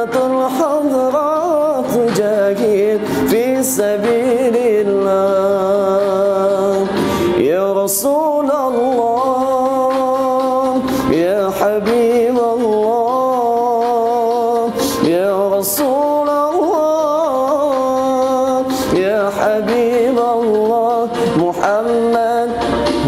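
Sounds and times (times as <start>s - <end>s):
man singing religious song: 0.0s - 23.0s.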